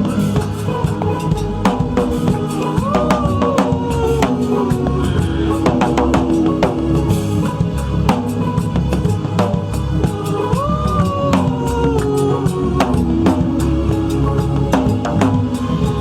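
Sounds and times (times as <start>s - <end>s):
band music: 0.0s - 16.0s
drum kit bass drum and snare: 0.0s - 16.0s
sustained melody notes: 0.0s - 16.0s.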